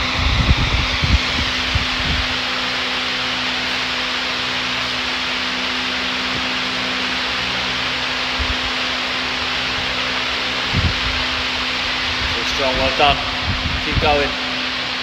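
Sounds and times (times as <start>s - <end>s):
electric fan rushing: 0.0s - 15.0s.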